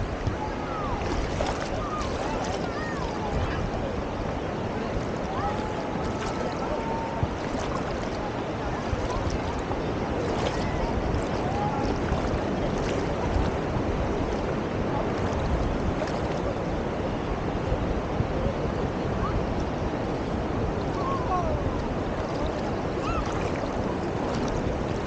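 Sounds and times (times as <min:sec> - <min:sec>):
surf: 0:00.0 - 0:25.0
wind buffeting microphone: 0:00.0 - 0:25.0.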